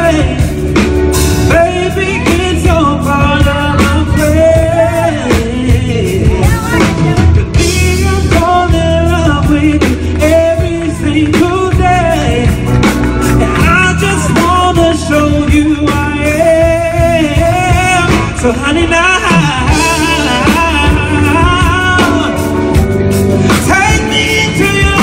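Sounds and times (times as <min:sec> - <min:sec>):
bass: 0:00.0 - 0:25.0
drums: 0:00.0 - 0:25.0
electric guitar: 0:00.0 - 0:25.0
man singing: 0:00.0 - 0:25.0.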